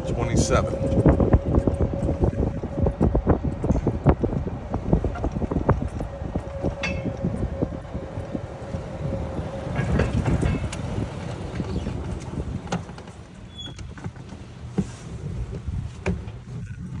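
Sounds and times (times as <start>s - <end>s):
golf cart rumbling: 0.0s - 17.0s.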